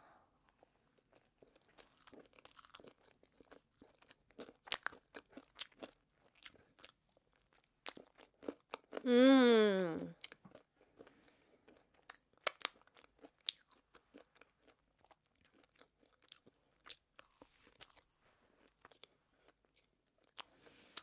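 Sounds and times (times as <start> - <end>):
close chewing with mouth clicks: 0.5 - 9.0, 10.1 - 21.0.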